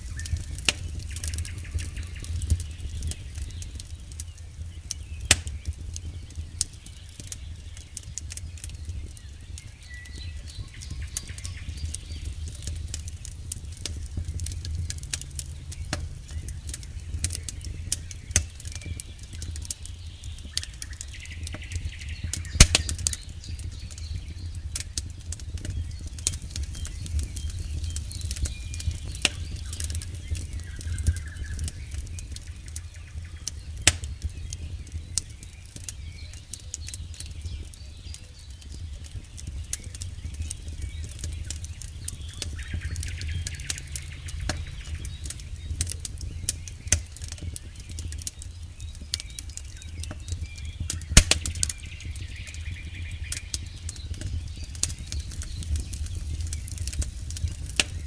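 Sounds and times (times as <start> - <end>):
campfire crackling: 0.0 - 58.0
fire low rumble: 0.0 - 58.0
sharp pops from fire: 0.0 - 58.0.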